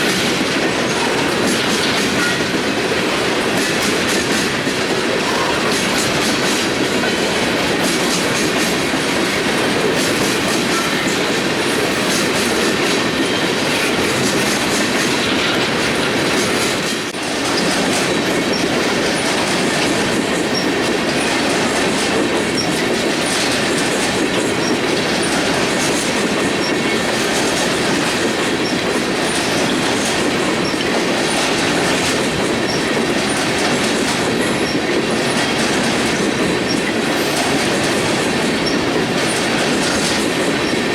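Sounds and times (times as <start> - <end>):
freight train rumble: 0.0 - 40.9.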